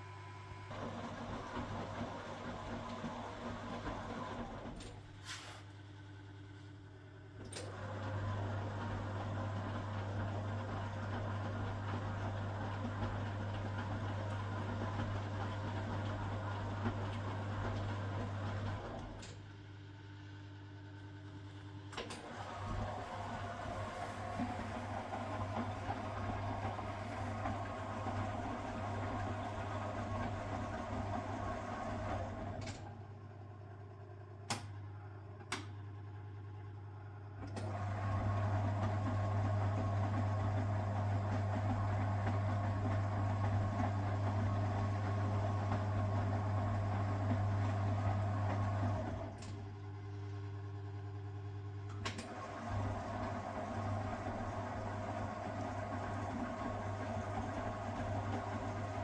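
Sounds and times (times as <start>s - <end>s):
washing machine motor humming: 0.0s - 5.1s, 7.6s - 19.4s, 21.0s - 33.2s, 35.4s - 59.0s.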